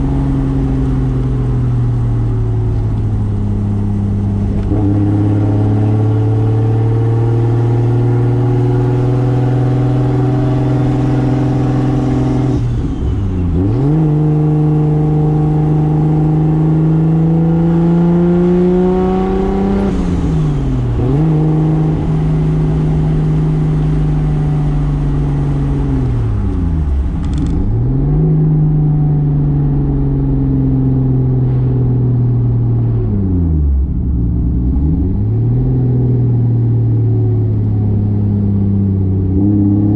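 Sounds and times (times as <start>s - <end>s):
car engine running under load: 0.0s - 7.0s, 7.7s - 39.9s.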